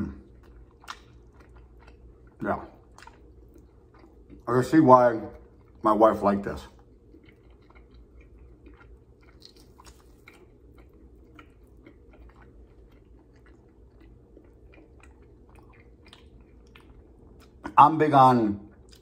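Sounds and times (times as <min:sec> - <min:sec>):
person chewing: 0:00.0 - 0:04.6, 0:05.3 - 0:05.9, 0:06.6 - 0:17.8, 0:18.7 - 0:19.0.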